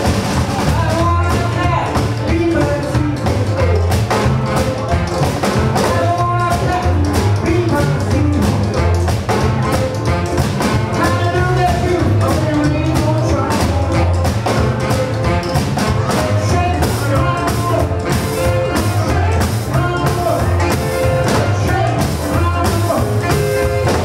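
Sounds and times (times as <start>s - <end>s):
drums: 0.0s - 24.0s
piano: 0.0s - 24.0s
upright bass: 0.0s - 24.0s
man singing into a microphone: 0.6s - 9.2s, 10.9s - 14.3s, 16.0s - 24.0s.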